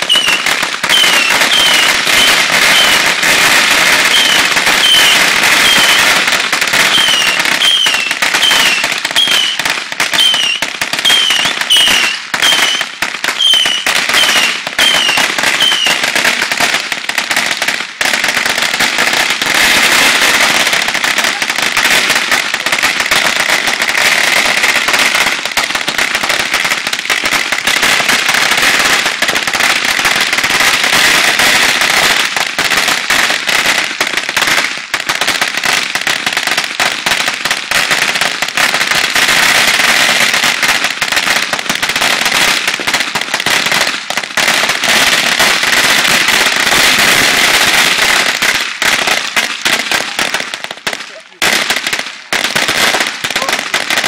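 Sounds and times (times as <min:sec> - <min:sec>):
firecrackers banging: 0:00.0 - 0:54.0.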